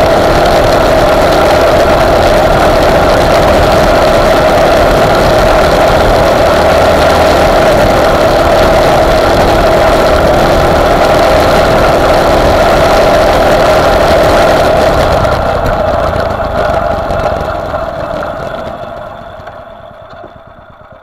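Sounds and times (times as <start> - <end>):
buggy engine running loud: 0.0 - 21.0.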